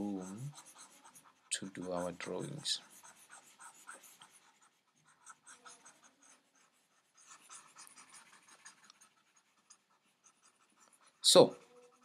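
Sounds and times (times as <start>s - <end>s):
stylus scratching on tablet: 0.0s - 12.0s.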